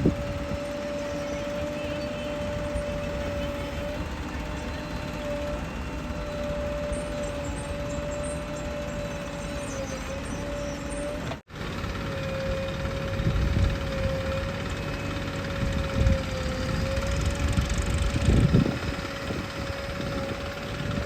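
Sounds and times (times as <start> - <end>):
heavy diesel machinery running: 0.0 - 21.0
wavering whine: 0.0 - 21.0.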